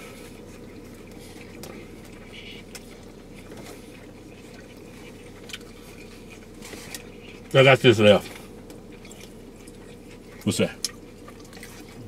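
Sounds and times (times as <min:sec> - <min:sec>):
low hum in car cabin: 0:00.0 - 0:12.0
people chewing food: 0:00.0 - 0:12.0.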